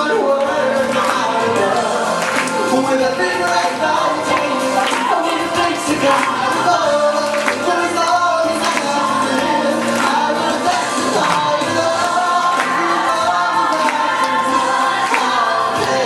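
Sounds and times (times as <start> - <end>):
pop song with choir vocals: 0.0 - 16.0.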